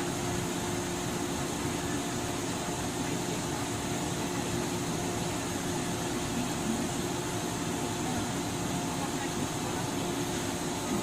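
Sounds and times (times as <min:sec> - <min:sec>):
train machinery hum and hiss: 0:00.0 - 0:11.0.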